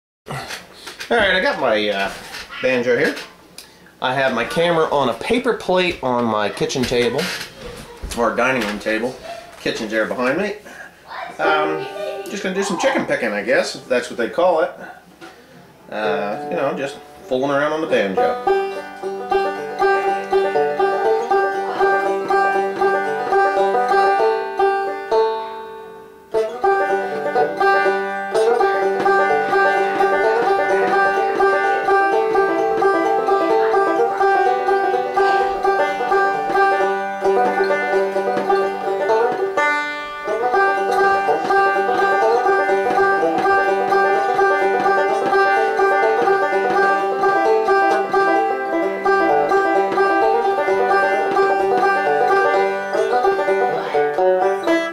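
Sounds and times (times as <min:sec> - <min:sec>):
banjo picking: 0:04.0 - 0:10.6, 0:11.4 - 0:54.9.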